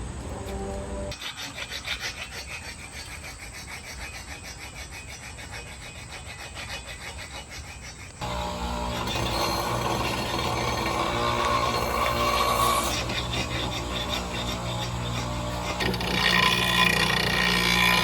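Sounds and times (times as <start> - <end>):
hand tool scraping wood: 0.3 - 18.0.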